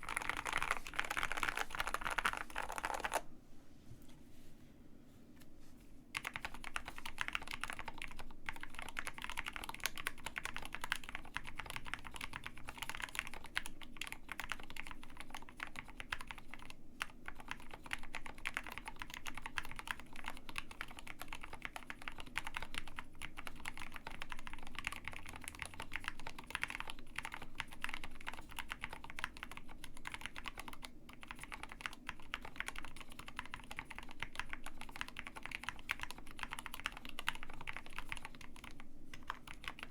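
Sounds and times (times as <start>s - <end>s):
fast typing on mechanical keyboard: 0.0s - 3.2s, 6.1s - 39.9s.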